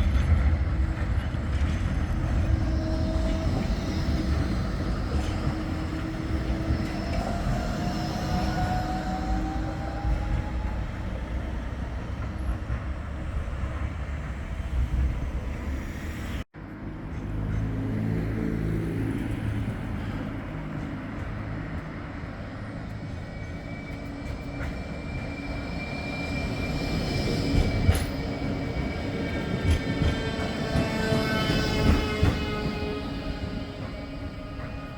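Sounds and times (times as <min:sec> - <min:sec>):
tram rumbling on track: 0:00.0 - 0:34.9.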